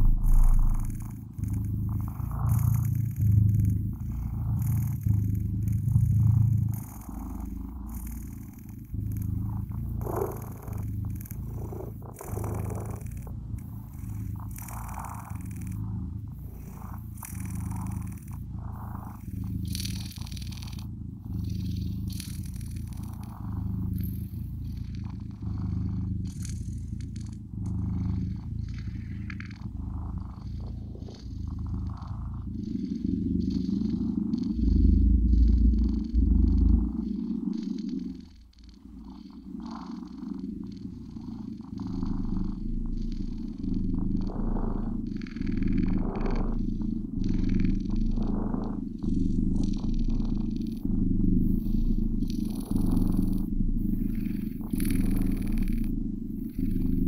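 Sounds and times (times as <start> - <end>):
cat purring: 0.0 - 57.0
low rumble: 0.0 - 57.0.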